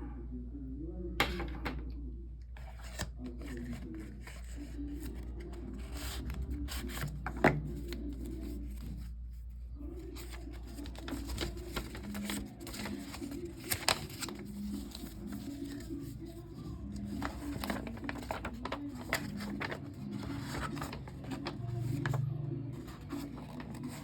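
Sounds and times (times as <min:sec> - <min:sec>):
objects rubbing and rustling: 0:02.6 - 0:24.0.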